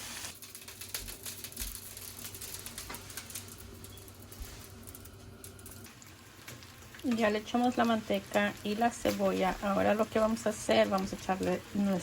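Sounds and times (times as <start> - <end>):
bacon and onion frying: 0.0 - 12.0.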